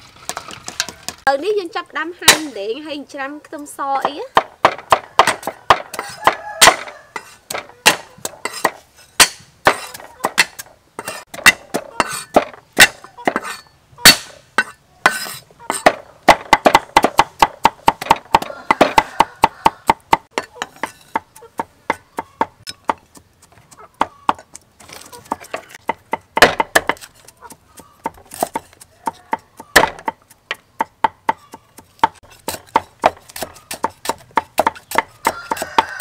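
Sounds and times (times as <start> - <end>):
cleaver chopping on wooden board: 4.0 - 24.6, 25.3 - 36.0.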